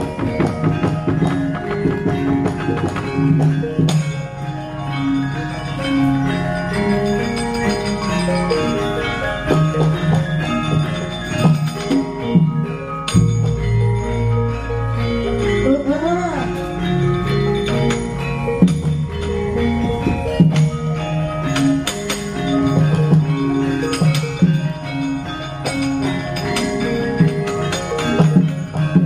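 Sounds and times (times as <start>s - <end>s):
gamelan ensemble playing: 0.0s - 29.0s.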